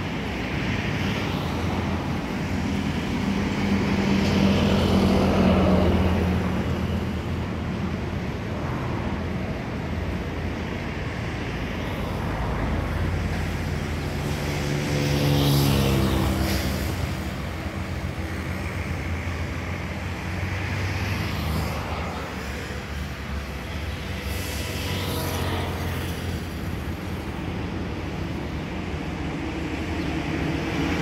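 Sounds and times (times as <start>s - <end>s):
road traffic hum: 0.0s - 31.0s.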